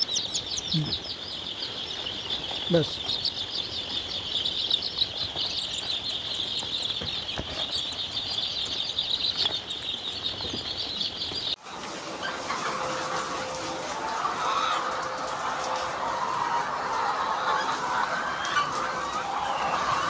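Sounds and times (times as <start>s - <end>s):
chickens chattering: 0.0s - 20.0s
chicks peeping: 0.0s - 20.0s.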